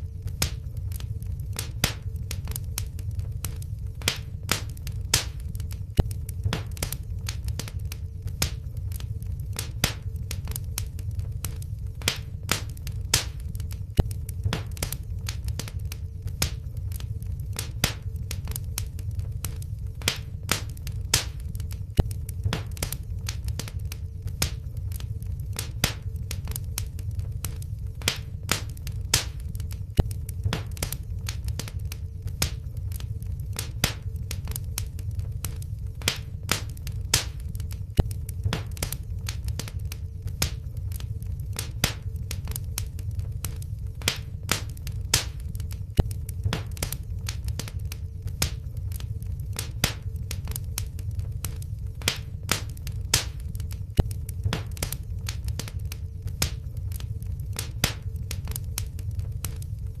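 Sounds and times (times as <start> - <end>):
faint steady hum: 0.0 - 60.0
wood fire crackling: 0.0 - 60.0.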